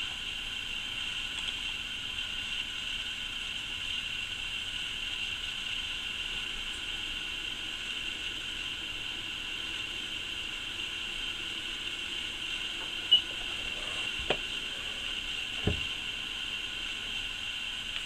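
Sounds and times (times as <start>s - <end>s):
cooling fan whirring: 0.0s - 18.0s.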